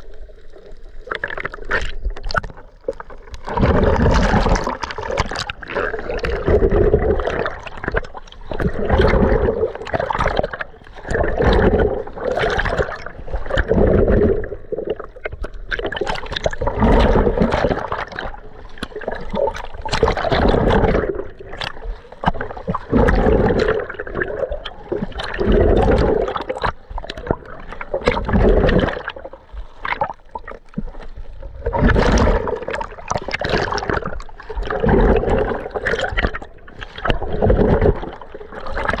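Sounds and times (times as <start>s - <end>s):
water sloshing and gurgling: 0.0s - 39.0s.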